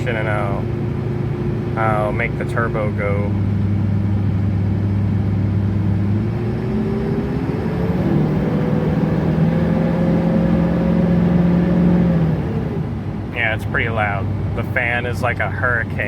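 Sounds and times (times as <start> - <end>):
diesel engine accelerating: 0.0 - 16.0
engine fan rushing: 0.0 - 16.0.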